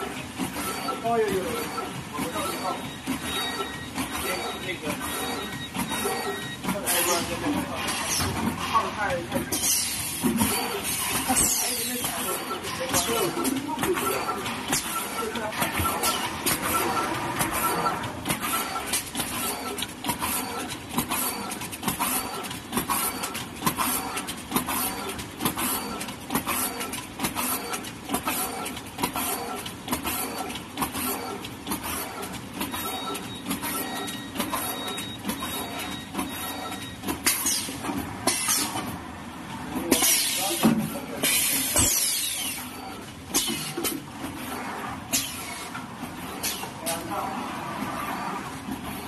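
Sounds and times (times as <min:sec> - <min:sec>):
bag cutting machine clattering: 0:00.0 - 0:39.0, 0:39.6 - 0:47.4.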